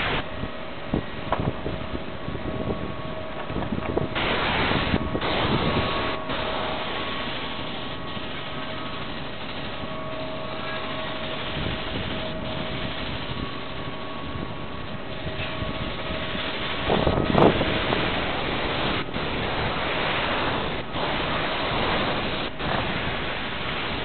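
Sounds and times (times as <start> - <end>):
machine humming: 0.0 - 24.0
rushing noise: 0.0 - 24.0.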